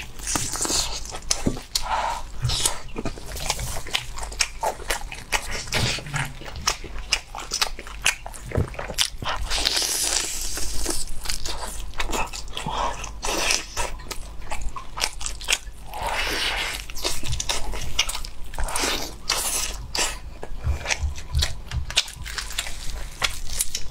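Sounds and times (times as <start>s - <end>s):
wet chewing and lip smacks: 0.0s - 23.9s.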